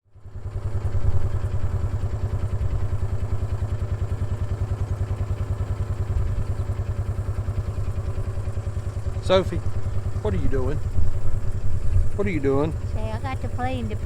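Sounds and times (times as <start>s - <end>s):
engine idling: 0.2s - 14.0s.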